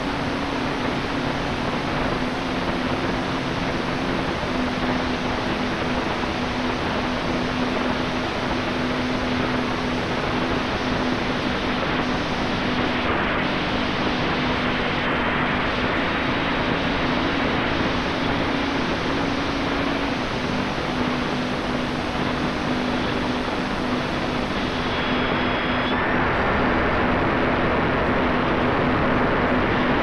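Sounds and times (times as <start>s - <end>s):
electric motor and propeller hum: 0.0s - 30.0s
wind rush over microphone: 0.0s - 30.0s.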